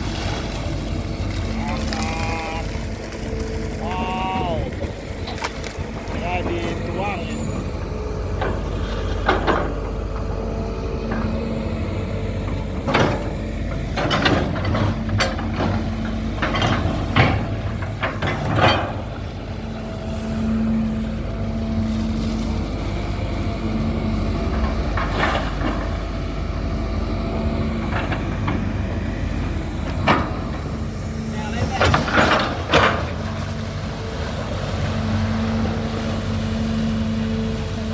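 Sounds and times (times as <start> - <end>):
excavator diesel engine: 0.0 - 37.9
hydraulic whine: 0.0 - 37.9.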